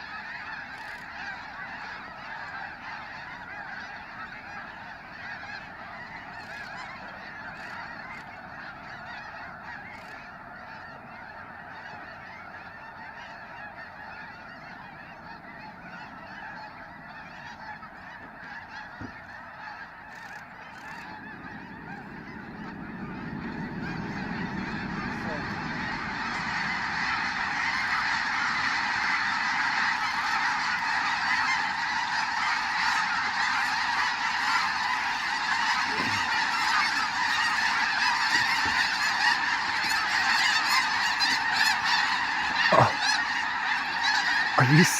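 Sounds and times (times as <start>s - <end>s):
flock of geese honking: 0.0s - 44.9s.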